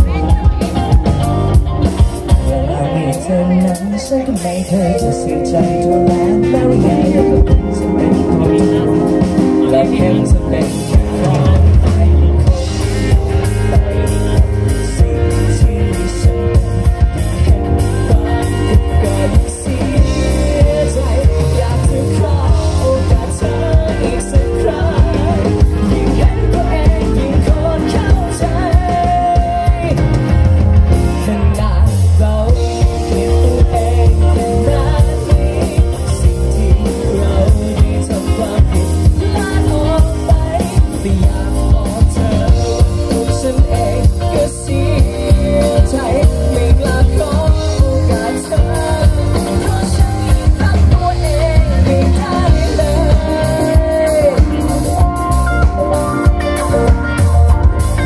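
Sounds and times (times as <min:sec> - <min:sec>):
drums: 0:00.0 - 0:58.0
electric guitar: 0:00.0 - 0:58.0
keyboard: 0:00.0 - 0:58.0
man singing: 0:00.0 - 0:58.0.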